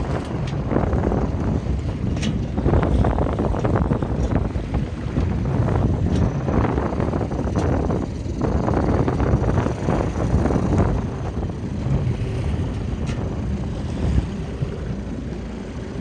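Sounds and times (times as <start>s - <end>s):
water splashing along hull: 0.0s - 16.0s
wind buffeting microphone: 0.0s - 16.0s.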